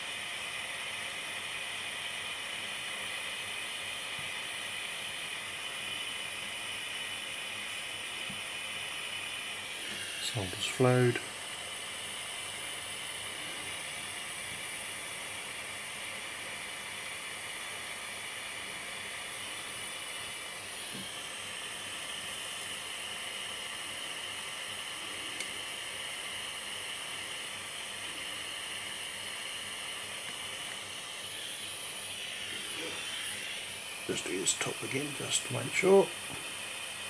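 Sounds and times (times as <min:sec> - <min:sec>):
gas soldering iron hissing: 0:00.0 - 0:37.0.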